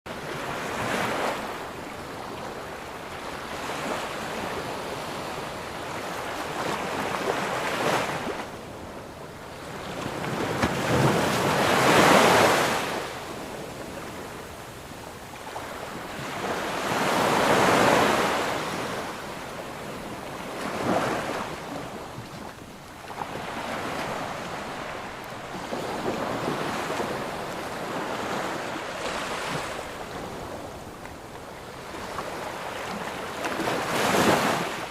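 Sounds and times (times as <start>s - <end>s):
ocean waves breaking: 0.1s - 14.4s, 15.4s - 34.9s.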